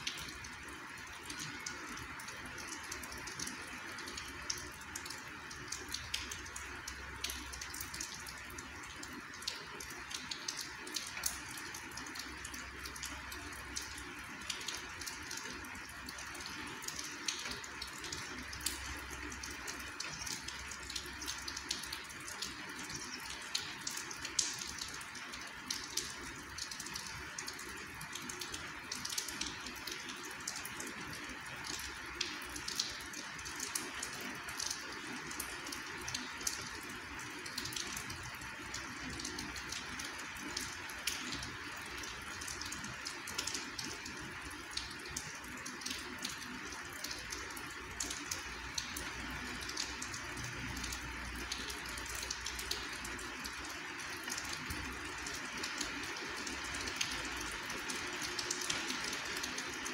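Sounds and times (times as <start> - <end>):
raindrops ticking: 0.0 - 59.9.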